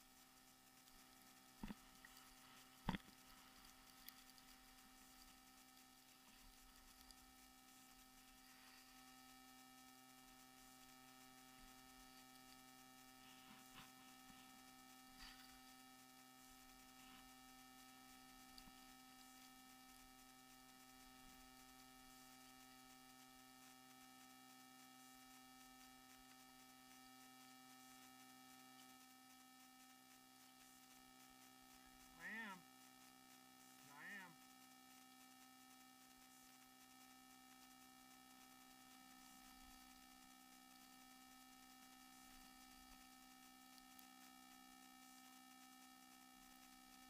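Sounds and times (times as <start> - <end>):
faint electronic hum: 0.0 - 47.0
faint ticks: 0.0 - 47.0.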